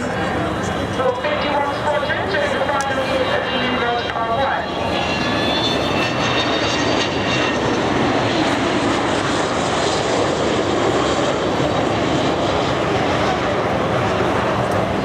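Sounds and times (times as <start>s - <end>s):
faint high engine whine: 0.0s - 15.0s
jet airliner engine roar: 0.0s - 15.0s.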